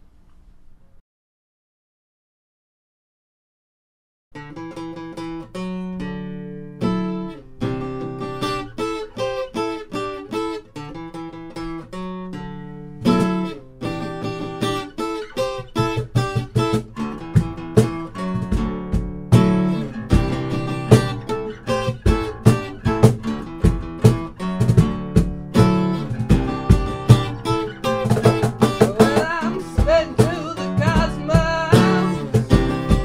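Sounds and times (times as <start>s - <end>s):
acoustic guitar playing: 4.4s - 33.0s.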